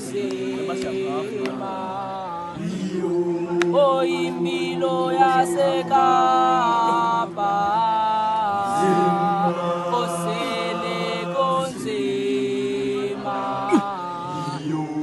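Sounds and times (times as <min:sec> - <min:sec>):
boys holding low sung chord: 0:00.0 - 0:15.0
lead voice singing melody: 0:00.0 - 0:15.0.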